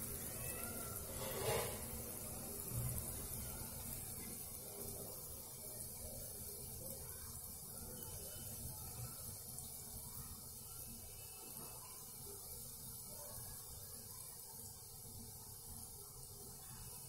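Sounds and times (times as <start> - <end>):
oil sizzling and bubbling: 0.0 - 17.0.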